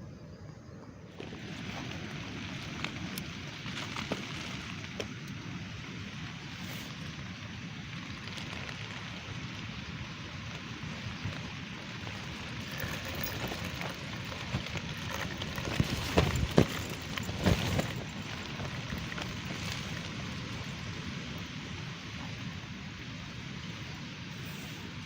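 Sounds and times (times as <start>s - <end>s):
steady rain falling: 1.2s - 25.0s.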